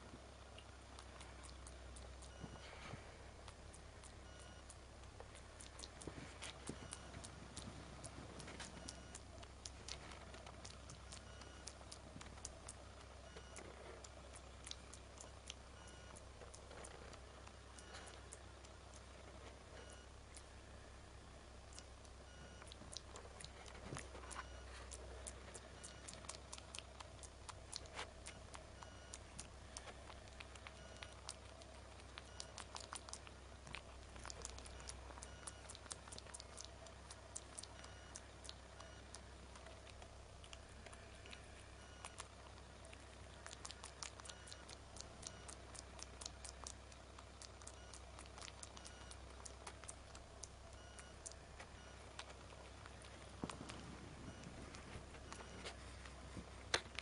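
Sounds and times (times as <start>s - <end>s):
faint clicks and ticks: 0.0s - 57.0s
low steady hum: 0.0s - 57.0s.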